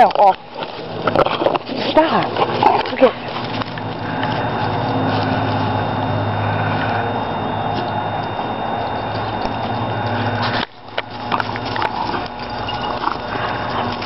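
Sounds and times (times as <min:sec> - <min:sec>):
background hum and hiss: 0:00.0 - 0:14.0
dog paws crunching dry leaves: 0:00.0 - 0:14.0.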